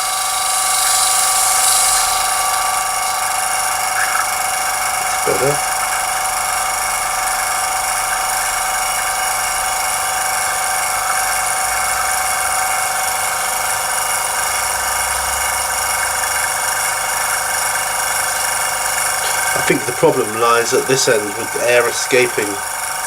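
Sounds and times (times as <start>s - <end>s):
compressor motor humming: 0.0s - 23.0s.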